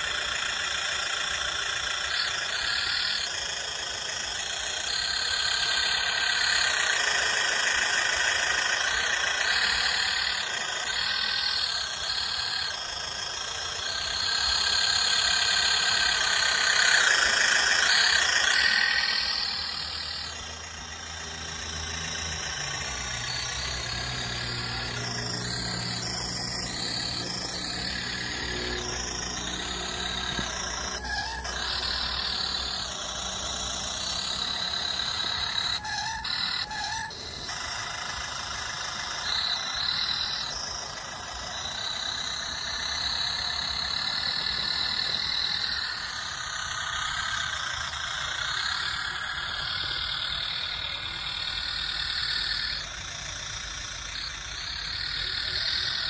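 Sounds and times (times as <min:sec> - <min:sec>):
low engine-like hum: 0:00.0 - 0:56.0
toy tractor motor and gear whine: 0:00.0 - 0:56.0.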